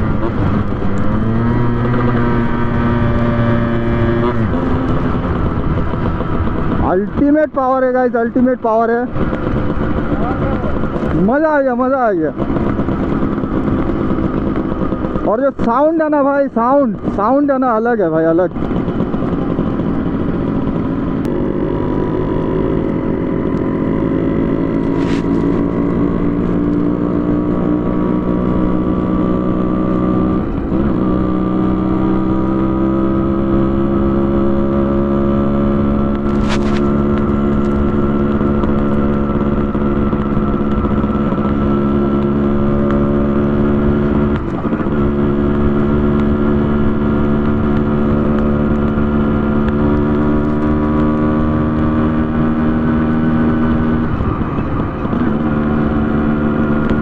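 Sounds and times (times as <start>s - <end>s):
two-stroke motorcycle engine: 0.0s - 57.0s.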